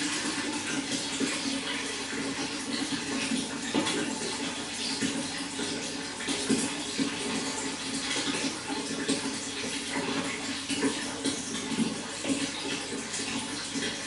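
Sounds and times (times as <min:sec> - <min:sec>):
running water: 0:00.0 - 0:14.0
small water splashes: 0:00.0 - 0:14.0.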